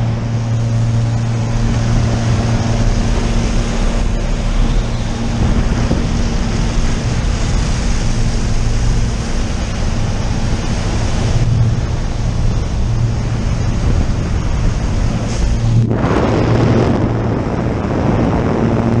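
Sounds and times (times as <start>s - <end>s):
loud wind rushing: 0.0s - 19.0s
plane engine and propeller droning: 0.0s - 19.0s.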